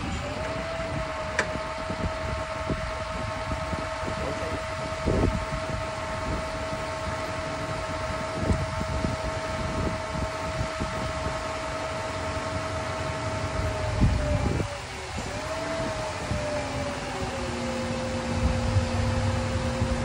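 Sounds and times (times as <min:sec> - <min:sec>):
diesel truck engine whining: 0:00.0 - 0:20.0
wind gusts on microphone: 0:00.0 - 0:20.0.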